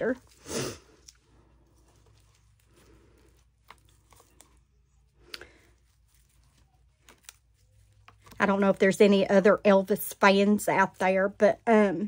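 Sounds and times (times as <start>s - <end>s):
paper towel rustling on mold: 0.0s - 11.5s.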